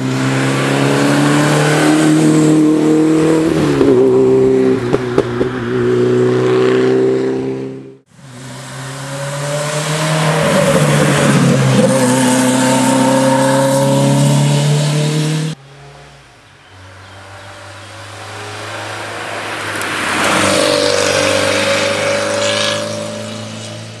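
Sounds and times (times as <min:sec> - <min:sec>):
rally cars passing at full throttle: 0:00.0 - 0:24.0.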